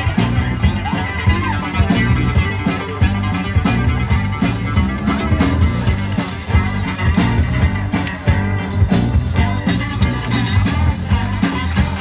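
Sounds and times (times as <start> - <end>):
bass guitar line: 0.0 - 12.0
live funk band playing: 0.0 - 12.0.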